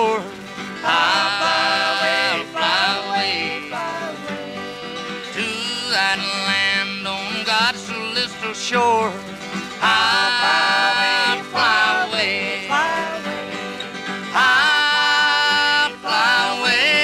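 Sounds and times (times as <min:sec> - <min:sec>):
country music with singing: 0:00.0 - 0:17.0.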